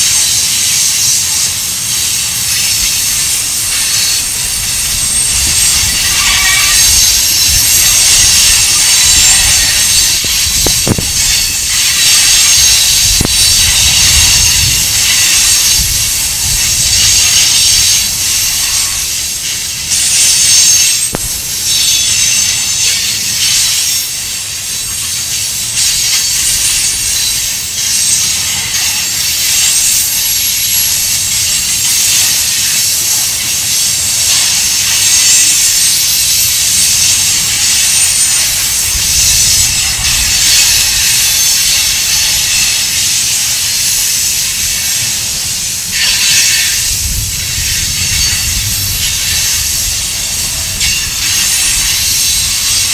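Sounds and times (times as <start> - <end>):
train wheels hissing on rails: 0.0 - 52.9.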